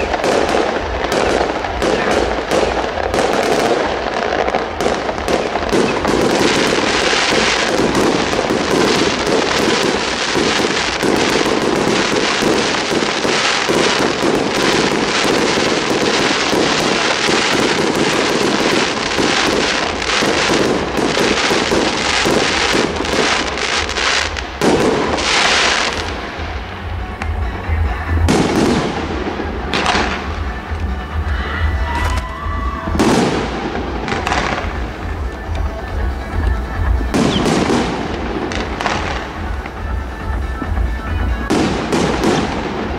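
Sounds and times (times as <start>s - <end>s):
fireworks crackling and popping: 0.0s - 42.9s
loud firework bangs: 0.0s - 42.9s.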